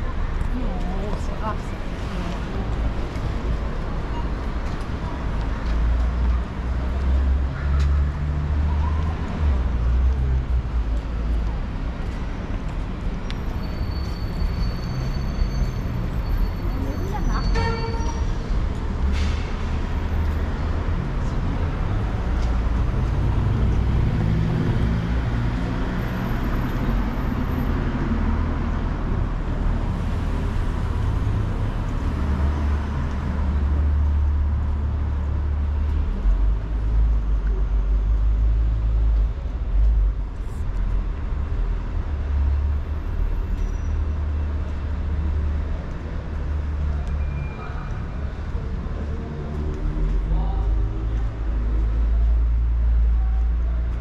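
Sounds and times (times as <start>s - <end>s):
distant traffic rumble: 0.0s - 54.0s.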